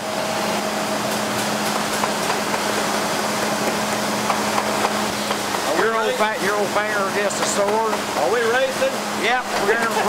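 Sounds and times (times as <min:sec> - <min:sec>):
factory machinery drone: 0:00.0 - 0:10.0.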